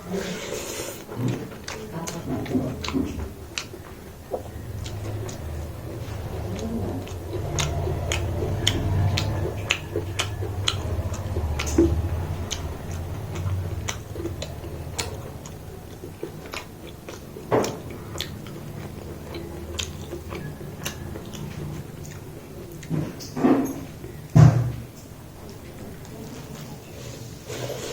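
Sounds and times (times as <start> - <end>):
person chewing food: 0.0 - 27.9
mouth clicks and smacks: 1.0 - 26.2.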